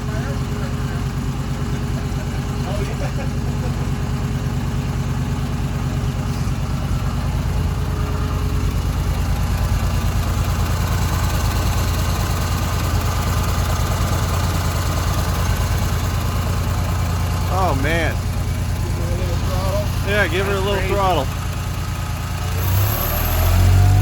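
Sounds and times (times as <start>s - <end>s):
fire truck engine idling: 0.0s - 23.5s.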